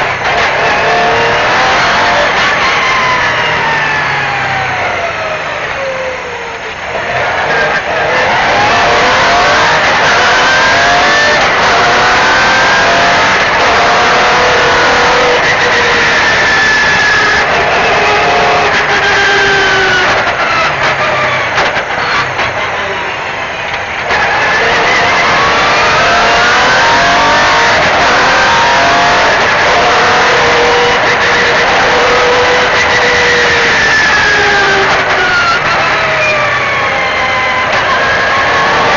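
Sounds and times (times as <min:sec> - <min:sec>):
rally car engine accelerating: 0:00.0 - 0:38.9
road noise: 0:00.0 - 0:38.9.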